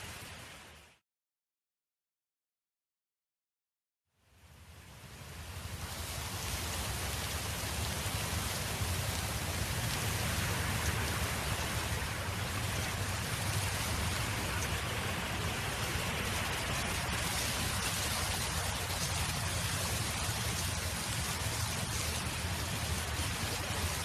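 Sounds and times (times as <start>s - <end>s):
steady wind noise: 4.3s - 24.0s.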